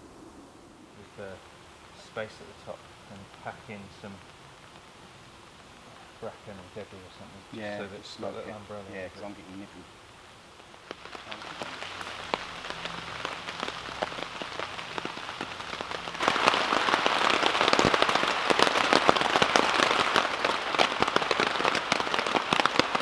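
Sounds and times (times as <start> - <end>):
rain on tent fabric: 0.0 - 23.0.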